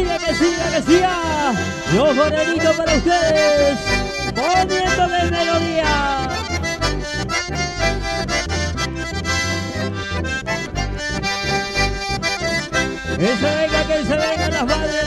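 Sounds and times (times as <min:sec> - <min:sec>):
accordion melody: 0:00.0 - 0:15.0
electric bass beat: 0:00.0 - 0:15.0.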